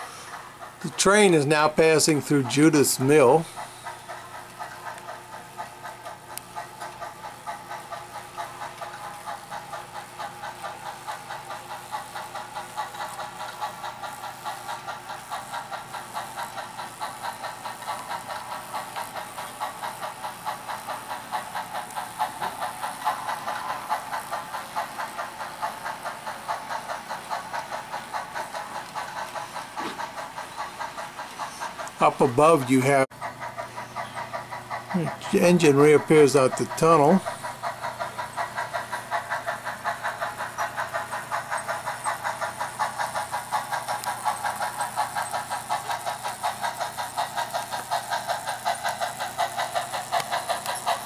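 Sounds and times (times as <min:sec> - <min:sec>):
model steam locomotive chuffing: 0:00.0 - 0:51.0.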